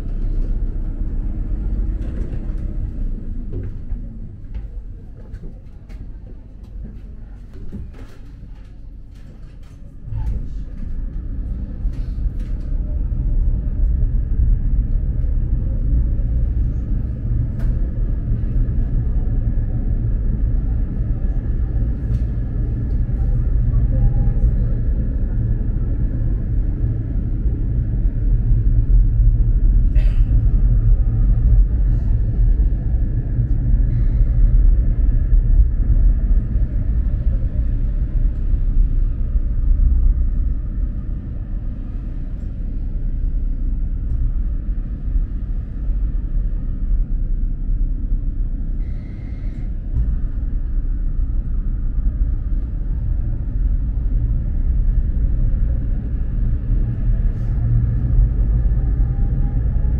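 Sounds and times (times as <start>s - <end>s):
tram rumbling: 0.0s - 59.9s.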